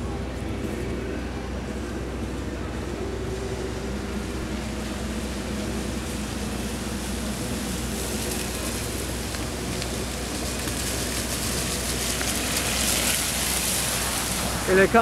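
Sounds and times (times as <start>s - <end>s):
steady low hum: 0.0s - 15.0s
tyres hissing on wet road: 0.0s - 15.0s.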